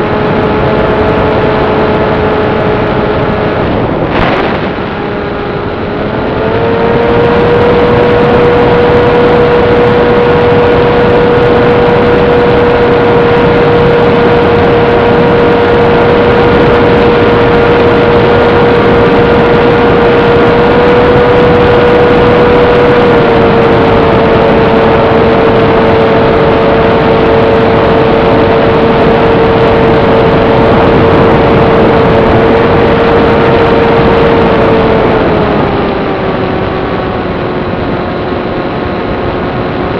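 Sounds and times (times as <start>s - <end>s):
electric motor and propeller whining: 0.0s - 39.9s
wind rush on microphone: 0.0s - 39.9s.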